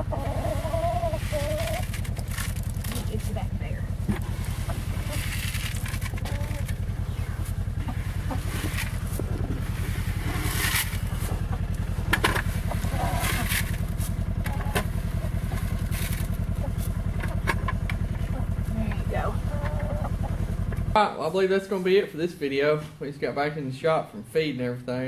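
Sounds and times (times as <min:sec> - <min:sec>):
utility vehicle engine idling: 0:00.0 - 0:21.0.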